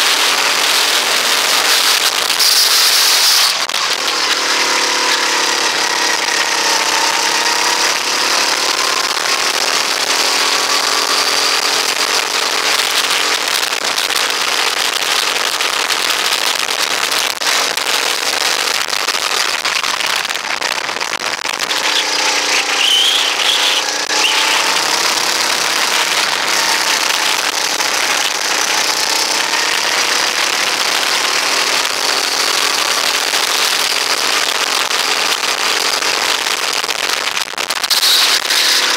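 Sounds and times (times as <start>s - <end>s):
go-kart engine racing: 0.0s - 38.9s.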